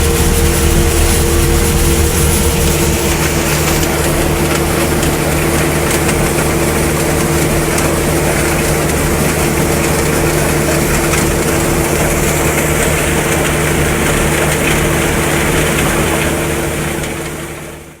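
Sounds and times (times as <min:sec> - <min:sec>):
harvesting machinery noise: 0:00.0 - 0:16.5
tractor engine running: 0:00.0 - 0:17.2.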